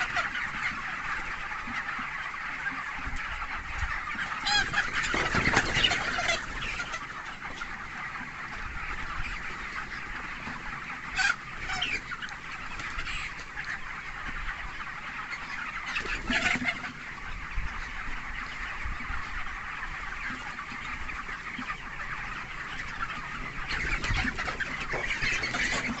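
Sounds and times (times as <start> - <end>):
chickens peeping and clucking: 0.0 - 26.0
louder chicken calls: 0.0 - 26.0.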